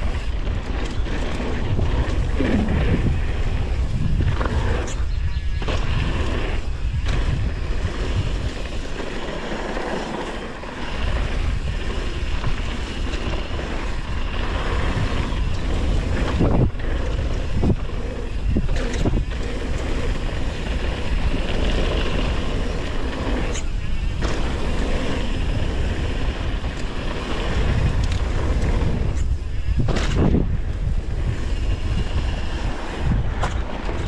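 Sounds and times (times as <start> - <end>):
wind on microphone: 0.0 - 9.9, 10.5 - 34.0
tyres rumbling on dirt: 0.0 - 34.0.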